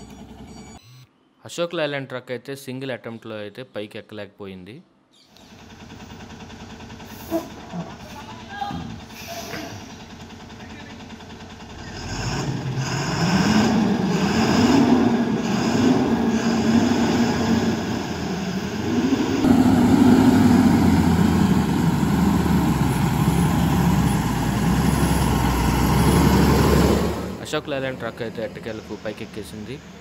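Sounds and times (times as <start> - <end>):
truck diesel engine pulling uphill: 5.5 - 30.0.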